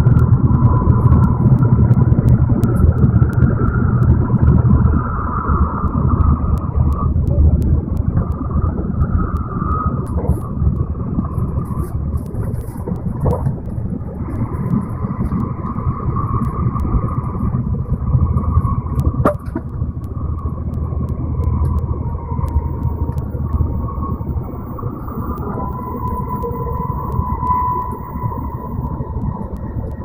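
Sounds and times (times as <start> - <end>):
faint steady whine: 0.0 - 30.0
train interior rumble: 0.0 - 30.0
light ticks: 0.1 - 30.0.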